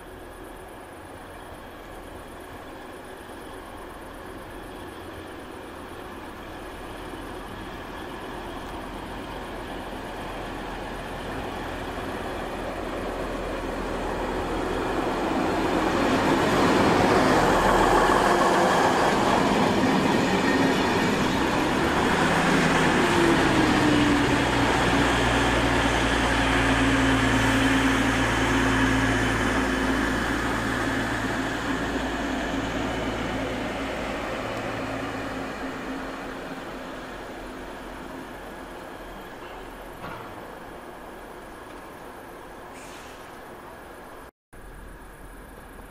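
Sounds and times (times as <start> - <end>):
diesel engine drone: 0.0 - 45.9
diesel trains passing and slowing: 0.0 - 45.9.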